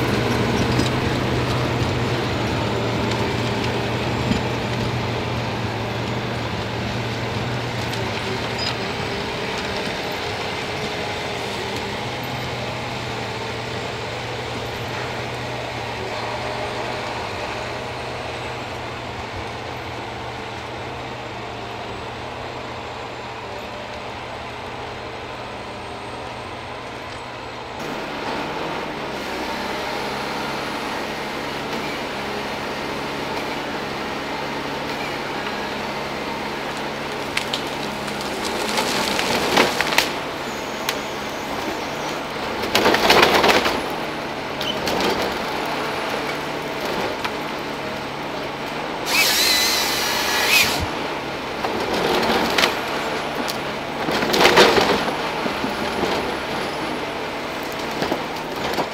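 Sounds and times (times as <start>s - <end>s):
harvester head cross-cutting logs: 0.0s - 21.0s, 26.2s - 58.9s
diesel engine and hydraulics running: 0.0s - 58.9s.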